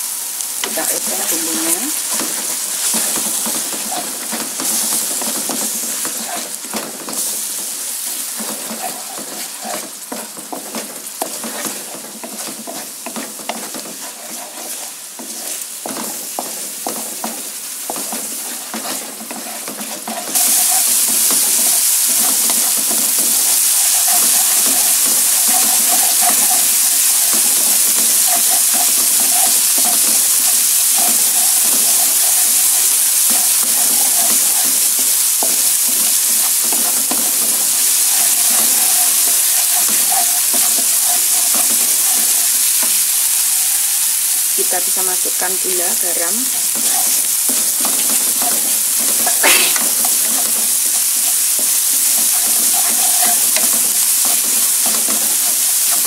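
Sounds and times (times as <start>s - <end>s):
chili paste sizzling in a wok: 0.0s - 56.0s
wooden spatula scraping a wok: 0.6s - 56.0s.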